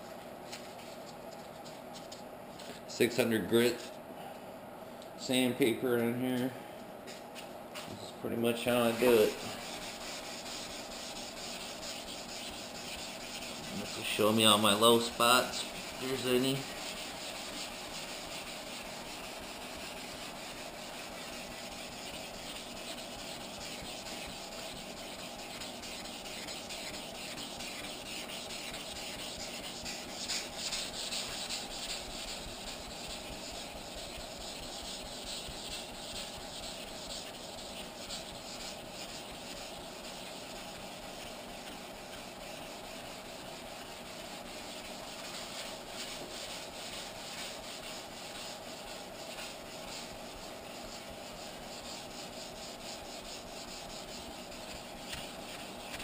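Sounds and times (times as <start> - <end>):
sandpaper rasping on metal: 8.7 - 56.0.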